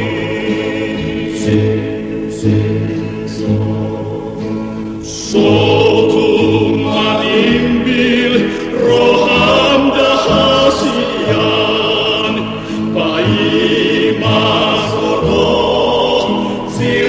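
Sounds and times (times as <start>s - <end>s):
vocal group singing in harmony: 0.0s - 17.0s.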